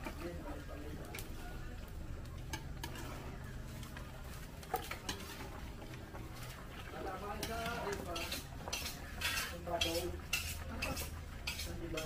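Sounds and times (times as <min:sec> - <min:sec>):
utensils clinking on cooking pot: 0:02.3 - 0:12.0.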